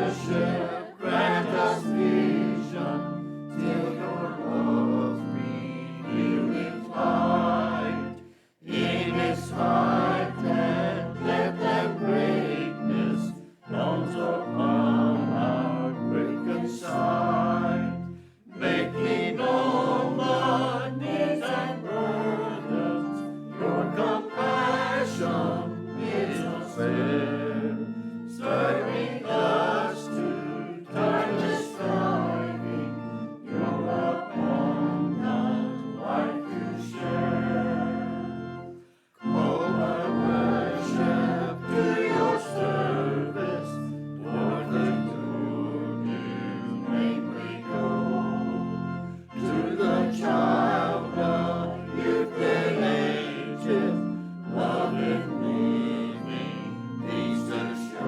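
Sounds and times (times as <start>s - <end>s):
choir singing: 0.0s - 58.0s
organ accompaniment: 0.0s - 58.0s.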